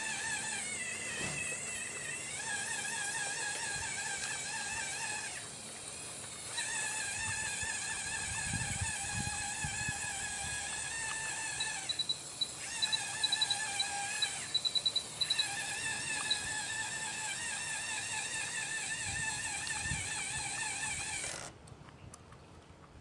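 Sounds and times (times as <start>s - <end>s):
electric drive whining: 0.0s - 21.6s.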